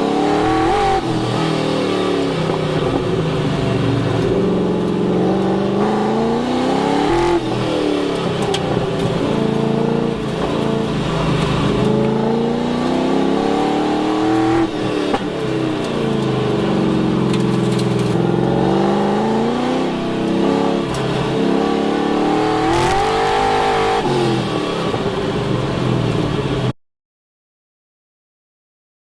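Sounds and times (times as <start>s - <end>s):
car engine revving under load: 0.0s - 26.7s.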